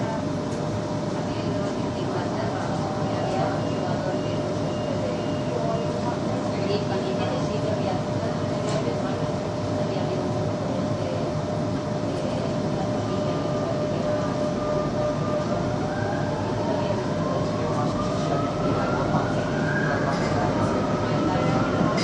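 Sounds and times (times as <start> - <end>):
underground train rumble: 0.0 - 22.0.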